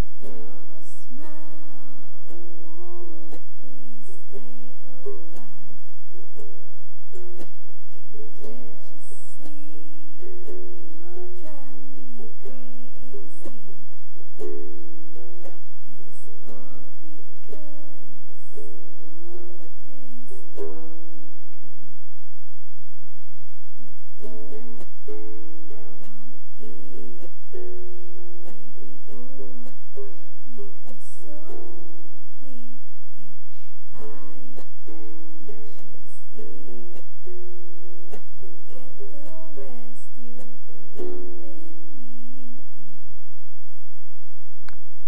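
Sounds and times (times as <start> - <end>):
low steady hum: 0.0 - 45.0
ukulele strumming: 0.0 - 45.0.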